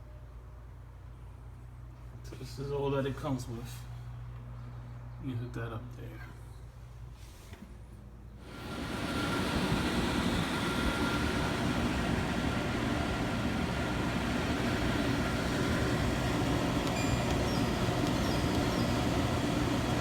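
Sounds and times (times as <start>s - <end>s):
air conditioner fan humming: 0.0s - 20.0s.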